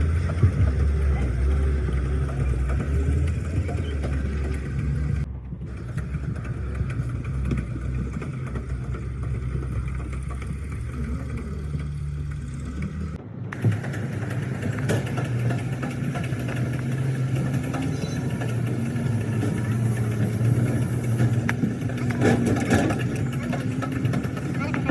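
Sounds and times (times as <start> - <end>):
vehicle engine rumbling: 0.0 - 24.9.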